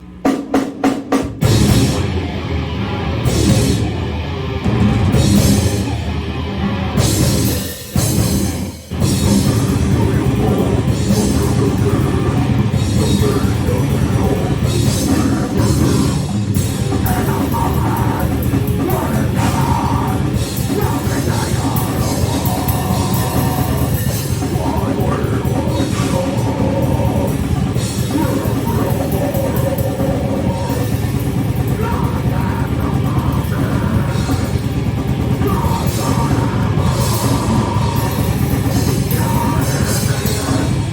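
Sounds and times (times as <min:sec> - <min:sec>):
heavy rock music with drums: 0:00.0 - 0:40.9.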